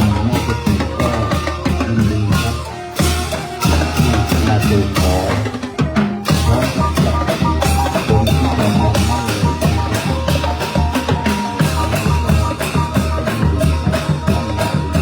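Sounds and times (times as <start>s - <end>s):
brass band playing: 0.0s - 15.0s
drums and percussion beat: 0.0s - 15.0s.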